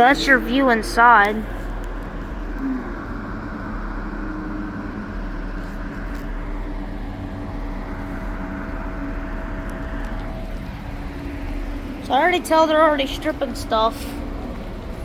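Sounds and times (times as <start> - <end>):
mechanical hum and rumble: 0.0 - 15.0.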